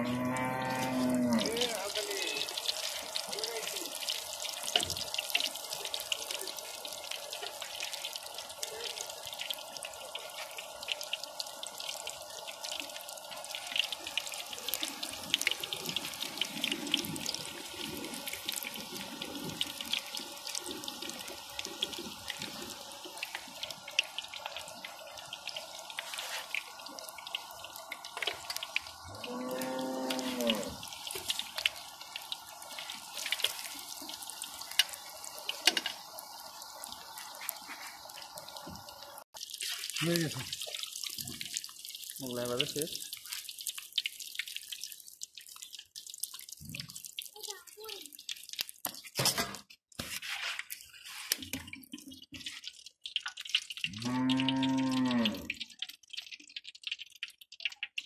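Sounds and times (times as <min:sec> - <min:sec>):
flatbreads deep-frying in oil: 0:00.0 - 0:58.0.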